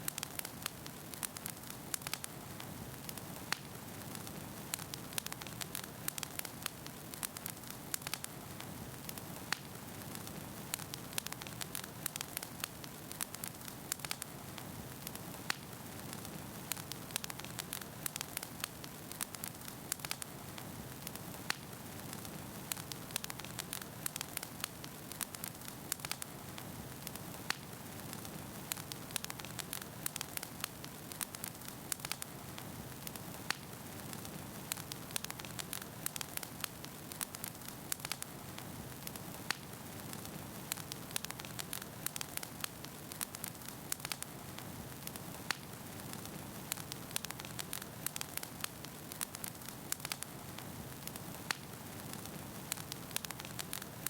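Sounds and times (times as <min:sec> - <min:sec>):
burning logs crackling and popping: 0:00.0 - 0:54.0
fire hissing: 0:00.0 - 0:54.0.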